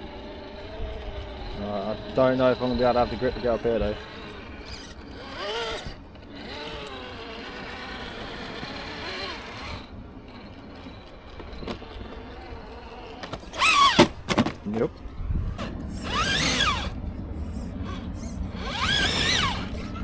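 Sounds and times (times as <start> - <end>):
electric motor whining: 0.0 - 14.2, 15.2 - 20.0.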